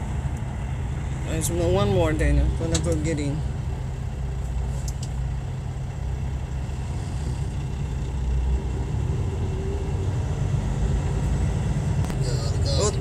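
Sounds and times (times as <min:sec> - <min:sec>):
engine and road rumble in a cabin: 0:00.0 - 0:13.0.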